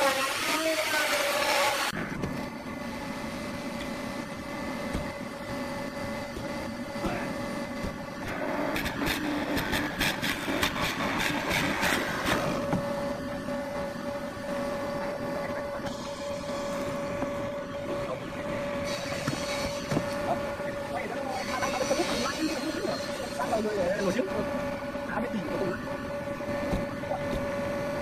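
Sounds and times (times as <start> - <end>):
machine motor humming: 0.3 - 28.0.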